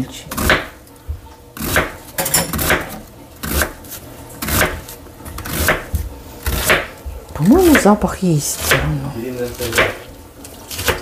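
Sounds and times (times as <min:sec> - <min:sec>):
knife chopping on cutting board: 0:00.3 - 0:00.8, 0:01.6 - 0:10.1, 0:10.7 - 0:11.0.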